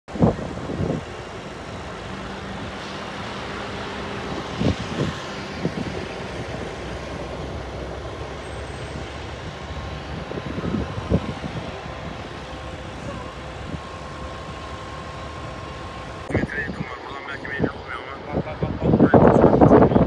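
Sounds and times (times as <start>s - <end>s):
engine drone: 0.1s - 20.0s.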